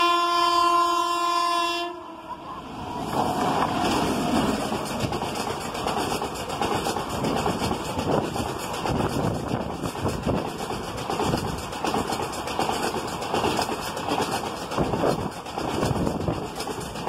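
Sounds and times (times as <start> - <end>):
train wheels clattering over rail joints: 3.1 - 17.0.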